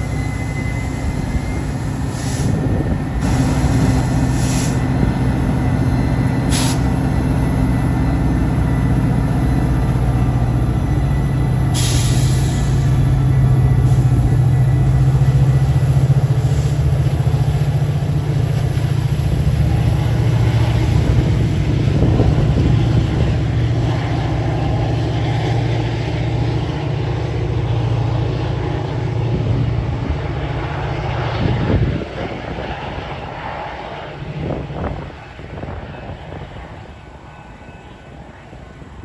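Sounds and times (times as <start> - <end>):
diesel locomotive engine drone: 0.0 - 39.0.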